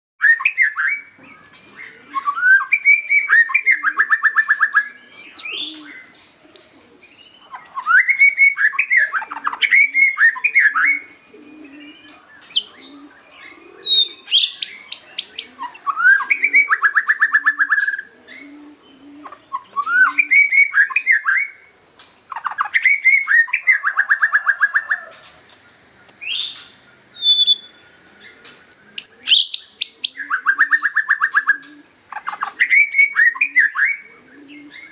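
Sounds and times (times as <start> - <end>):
bird singing whistled phrases: 0.2 - 1.1, 1.8 - 18.6, 19.5 - 21.6, 22.3 - 25.1, 26.2 - 27.8, 28.6 - 34.9.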